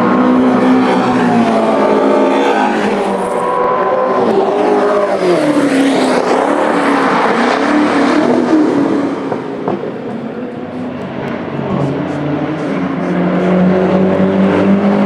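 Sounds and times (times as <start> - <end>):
race car engines at high revs: 0.0 - 15.0.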